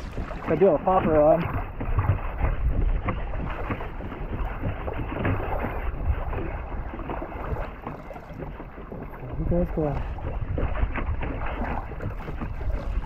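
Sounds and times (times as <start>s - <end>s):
water rushing: 0.0s - 13.0s
water slapping against kayak hull: 0.0s - 13.0s
wind rumbling on microphone: 0.0s - 13.0s.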